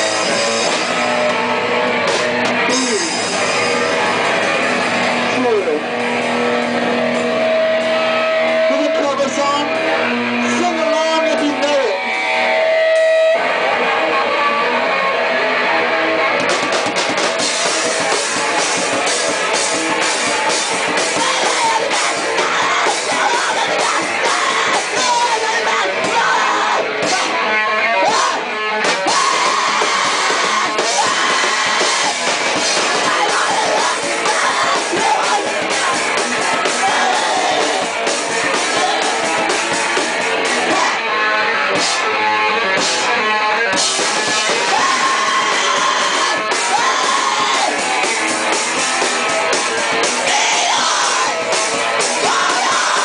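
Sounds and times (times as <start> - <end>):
drums: 0.0 - 53.0
electric guitar: 0.0 - 53.0
rock band playing: 0.0 - 53.0.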